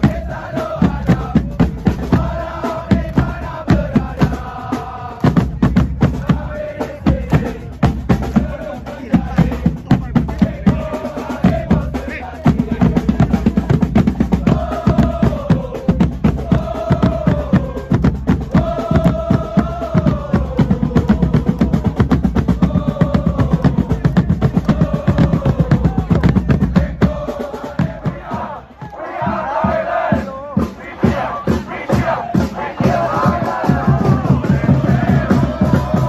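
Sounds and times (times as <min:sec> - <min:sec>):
crowd singing a chant: 0:00.0 - 0:36.0
fast steady drumming: 0:00.0 - 0:36.0.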